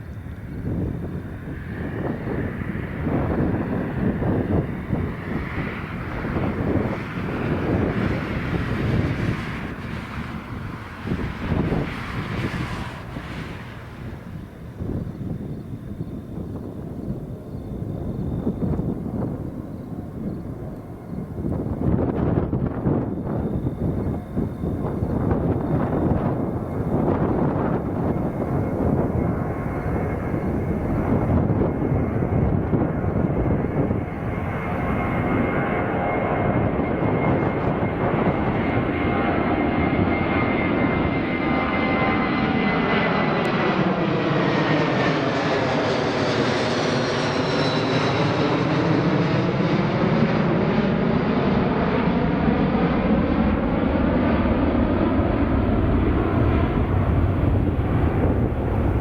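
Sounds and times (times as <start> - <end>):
faint high whine: 0.0 - 59.0
jet engines rumbling: 0.0 - 59.0.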